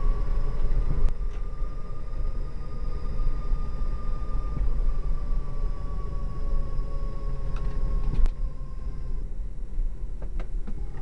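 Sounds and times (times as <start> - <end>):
electric motor whine: 0.0 - 9.5, 10.6 - 11.0
low road rumble: 0.0 - 11.0.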